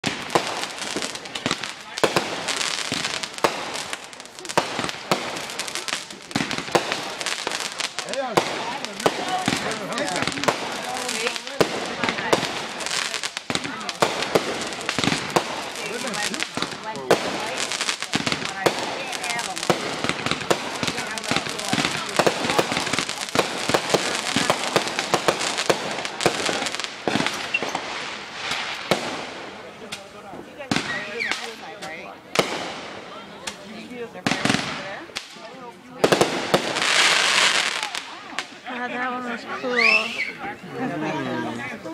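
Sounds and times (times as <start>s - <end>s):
crackle of bursting fireworks: 0.0s - 38.6s
fireworks bangs and pops: 0.0s - 38.7s.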